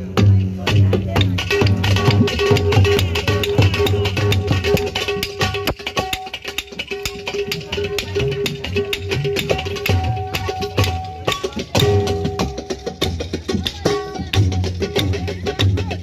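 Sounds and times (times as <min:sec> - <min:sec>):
tabla strokes: 0:00.0 - 0:16.0.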